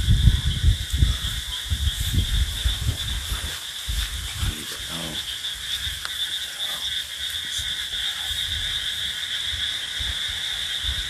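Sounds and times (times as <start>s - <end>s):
frogs calling: 0.0s - 11.0s
low rumbling noise: 0.0s - 11.0s.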